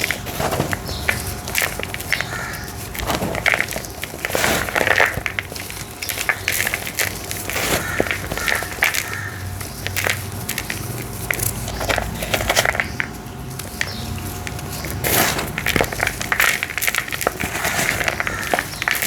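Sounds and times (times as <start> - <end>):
dried brick dirt crumbling: 0.0 - 19.0.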